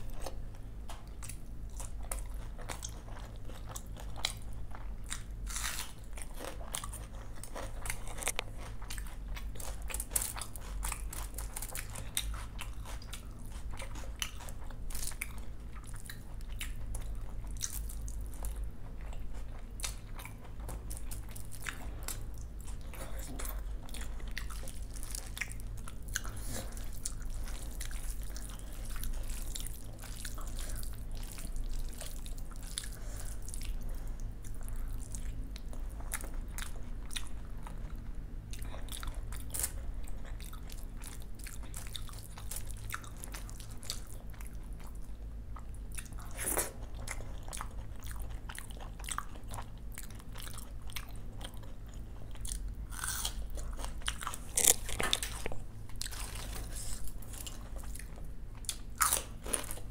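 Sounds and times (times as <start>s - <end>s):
low steady hum: 0.0s - 59.9s
person chewing crunchy food: 0.0s - 59.9s.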